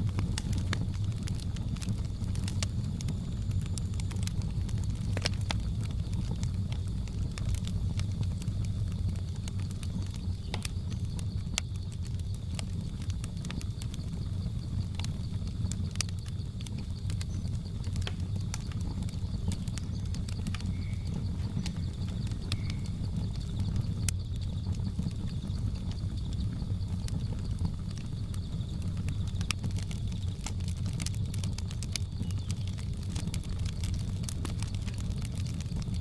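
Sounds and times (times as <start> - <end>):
insect drone: 0.0 - 36.0
wood fire crackling: 0.0 - 36.0.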